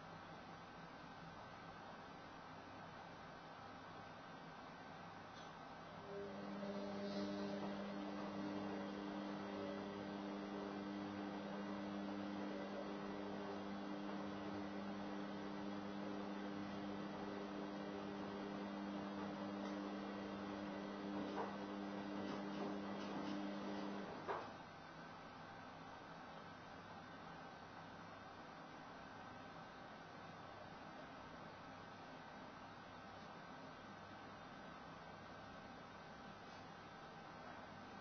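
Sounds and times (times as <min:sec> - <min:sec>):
faint hiss: 0:00.0 - 0:38.0
low electrical hum: 0:00.0 - 0:38.0.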